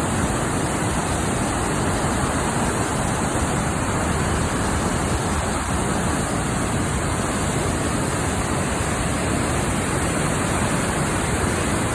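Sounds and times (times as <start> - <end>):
rushing floodwater: 0.0 - 11.9.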